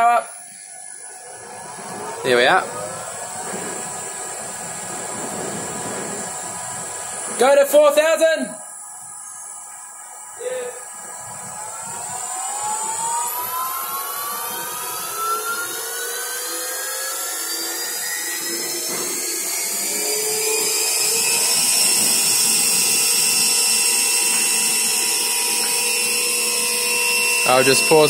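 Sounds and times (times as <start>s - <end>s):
milling machine spindle whine: 0.0s - 28.0s.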